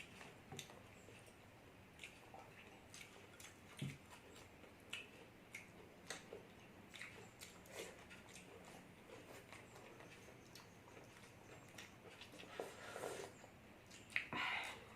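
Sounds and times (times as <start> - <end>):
chewing clicks and smacks: 0.0 - 12.5, 13.8 - 14.9.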